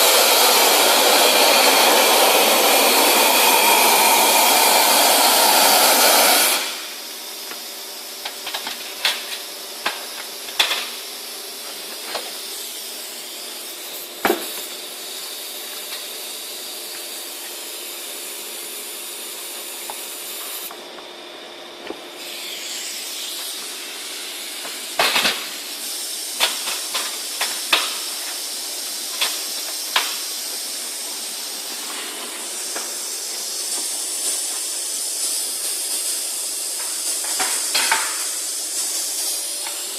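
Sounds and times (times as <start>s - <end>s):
vacuum cleaner hissing: 0.0s - 39.9s.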